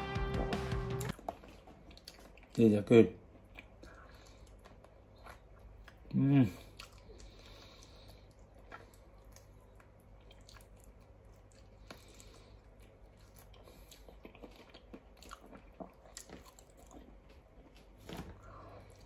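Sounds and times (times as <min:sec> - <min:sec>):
person chewing: 0:00.9 - 0:02.6, 0:03.2 - 0:19.0.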